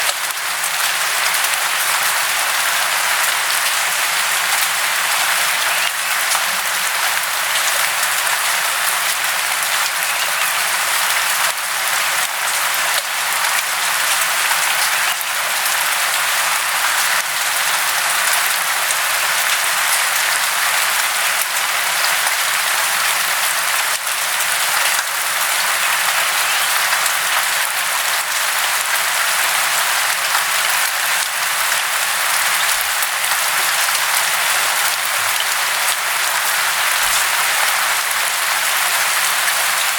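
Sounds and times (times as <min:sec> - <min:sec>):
falling water splashing: 0:00.0 - 0:39.9.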